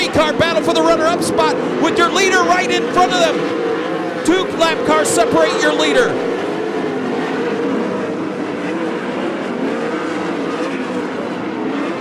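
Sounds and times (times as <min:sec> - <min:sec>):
race car engines racing: 0:00.0 - 0:12.0.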